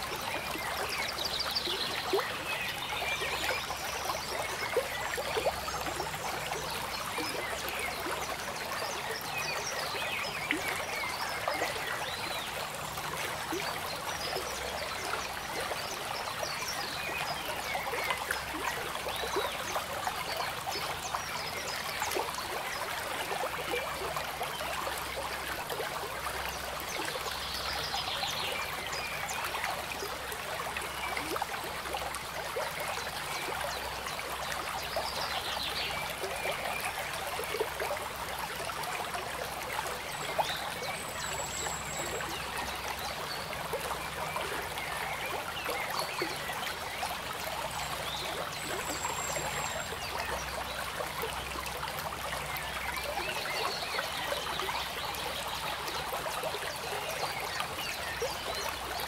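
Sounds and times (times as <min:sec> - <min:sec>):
water trickling and gurgling: 0:00.0 - 0:59.0.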